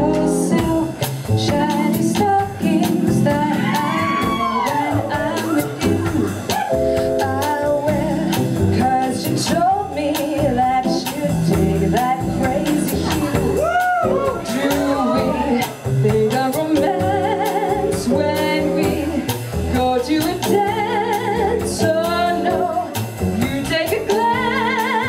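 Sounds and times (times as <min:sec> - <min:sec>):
jazz band playing: 0:00.0 - 0:25.0
woman singing with vibrato: 0:00.0 - 0:25.0.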